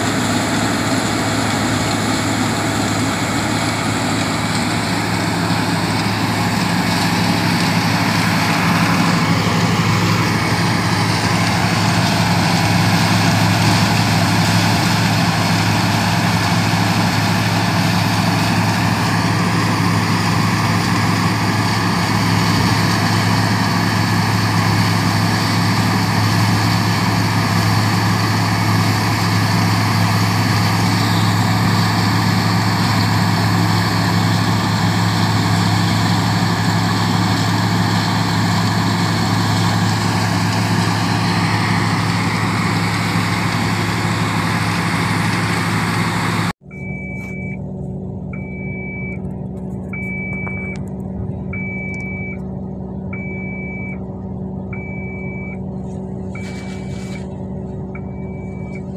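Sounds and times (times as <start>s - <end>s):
dense grinding noise: 0.0s - 46.5s, 55.6s - 57.9s
heavy diesel engine humming: 0.0s - 58.9s.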